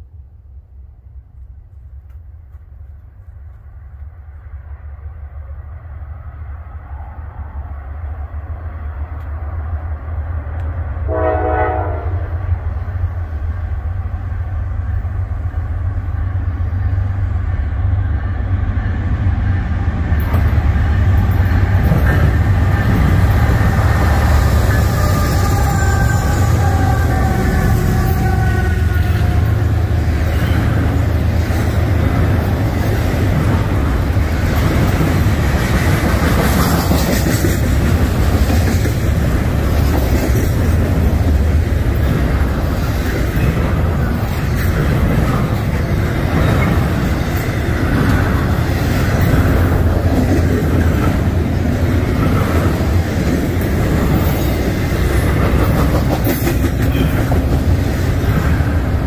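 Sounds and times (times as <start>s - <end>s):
train wheels rumbling and clicking: 1.4s - 4.4s, 12.4s - 59.0s.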